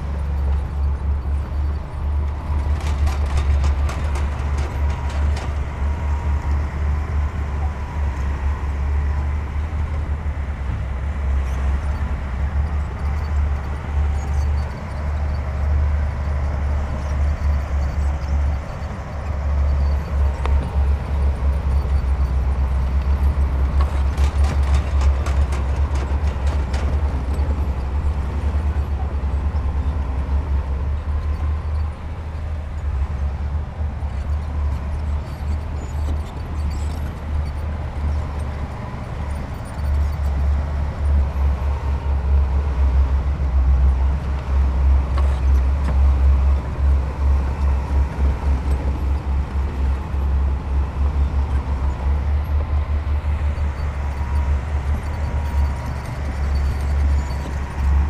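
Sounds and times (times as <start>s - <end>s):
diesel machinery engine rumble: 0.0s - 58.0s.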